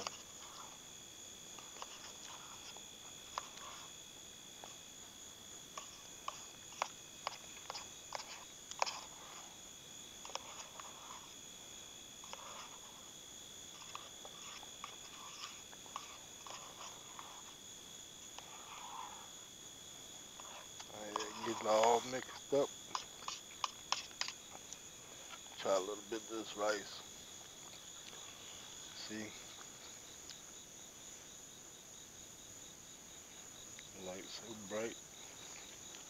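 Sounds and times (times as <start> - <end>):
night insects trilling: 0.0 - 36.0.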